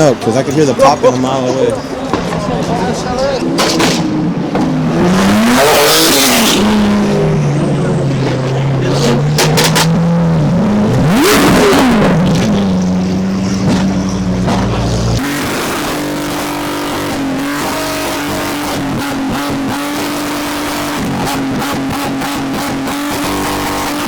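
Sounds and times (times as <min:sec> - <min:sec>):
performance car engine revving: 0:01.8 - 0:24.0.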